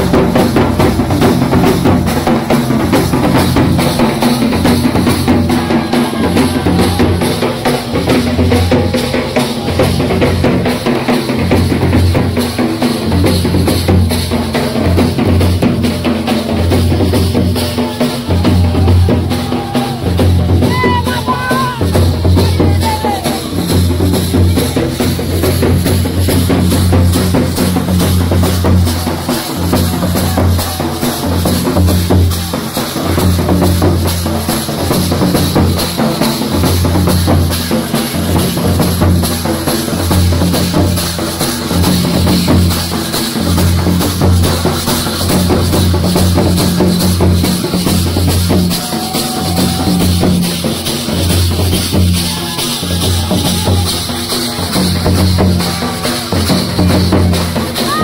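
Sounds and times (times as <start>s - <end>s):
barrel drums beaten with sticks: 0.0s - 58.0s
crowd voices: 0.0s - 58.0s.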